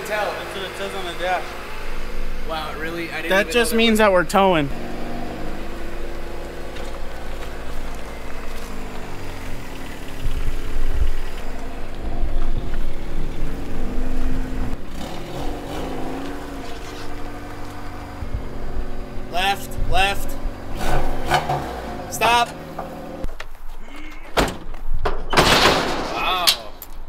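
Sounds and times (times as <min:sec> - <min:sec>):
car engine running: 0:00.0 - 0:23.3.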